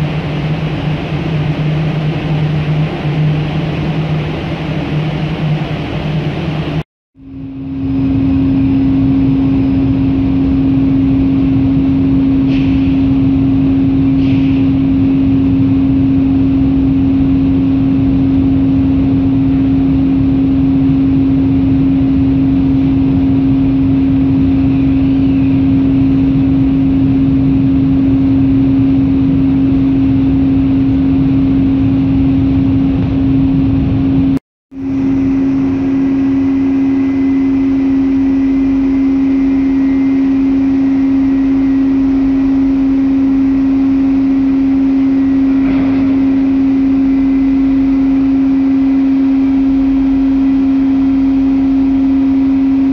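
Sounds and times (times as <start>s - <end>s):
ship machinery hum: 0.0s - 52.9s.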